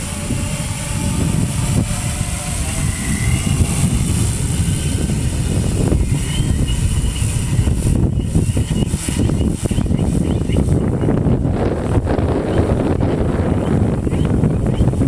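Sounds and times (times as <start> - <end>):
quadcopter motors whining: 0.0 - 15.0
wind buffeting microphone: 0.0 - 15.0.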